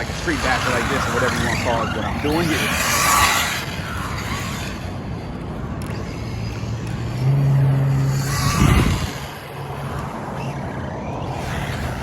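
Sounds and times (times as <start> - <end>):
rc car motor humming: 0.0 - 12.0
rc car whooshing past: 0.0 - 12.0.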